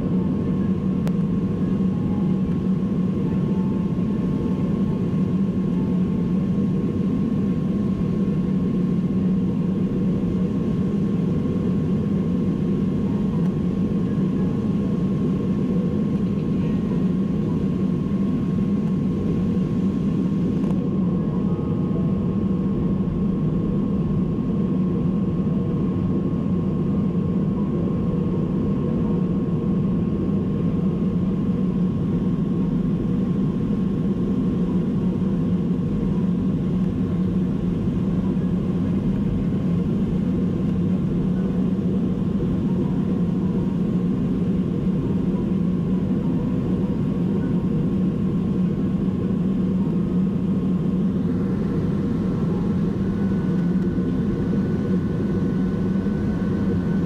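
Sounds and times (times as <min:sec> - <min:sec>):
jet engines and airflow rumble: 0:00.0 - 0:57.0.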